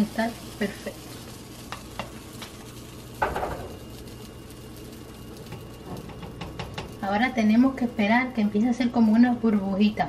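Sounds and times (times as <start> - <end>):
batter sizzling in frying pan: 0.0 - 10.0.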